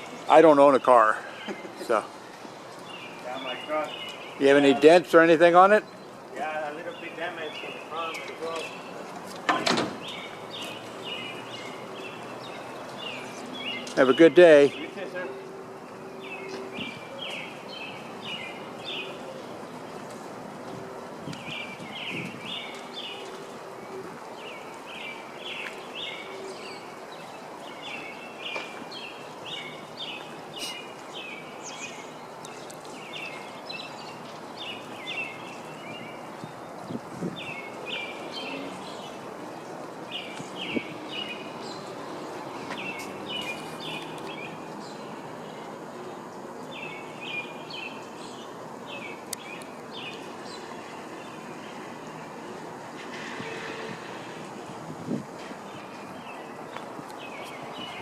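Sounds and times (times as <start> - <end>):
small birds chirping: 0.0 - 20.5, 21.2 - 53.8, 54.6 - 58.0
outdoor background noise: 0.0 - 58.0.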